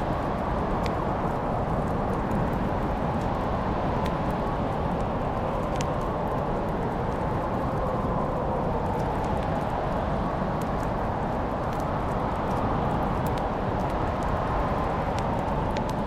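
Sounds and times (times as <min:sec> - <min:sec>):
fire crackles and pops: 0:00.0 - 0:16.0
wood fire burning: 0:00.0 - 0:16.0.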